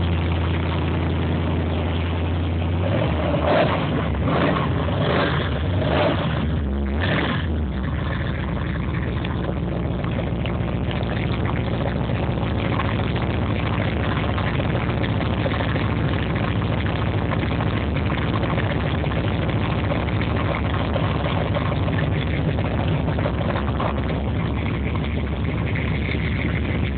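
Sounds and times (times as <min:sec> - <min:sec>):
pickup engine idling: 0:00.0 - 0:26.9.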